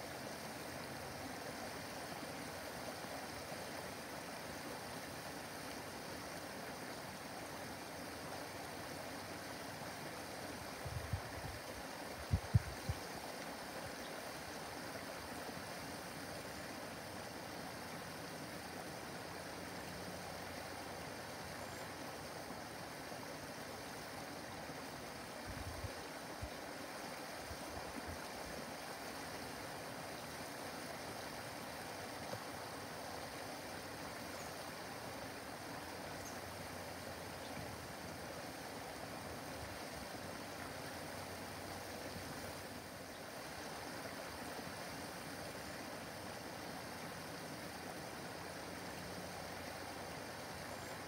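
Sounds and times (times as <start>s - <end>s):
waterfall splashing over rocks: 0.0s - 51.0s.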